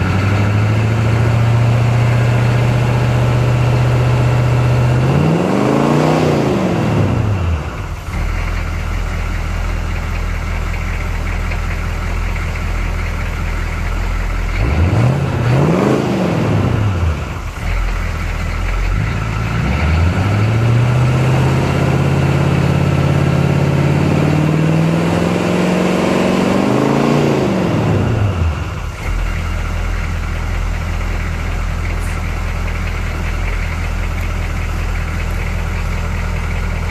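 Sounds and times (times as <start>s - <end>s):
diesel engine idling and revving: 0.0s - 36.9s.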